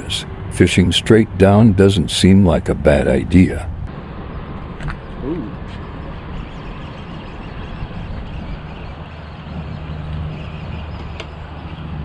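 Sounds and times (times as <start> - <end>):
low engine drone: 0.0 - 12.0
traffic rushing on bridge: 0.0 - 12.0.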